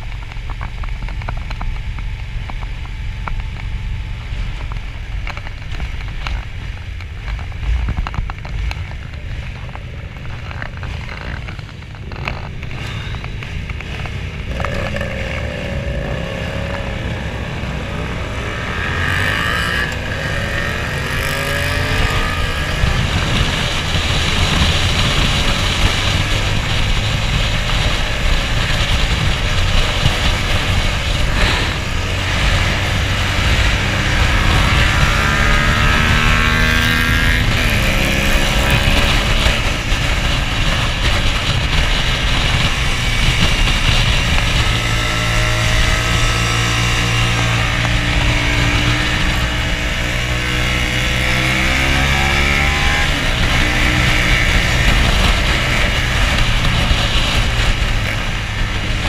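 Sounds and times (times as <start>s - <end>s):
motorcycle engine revving: 0.0s - 59.0s
wind rush: 0.0s - 59.0s.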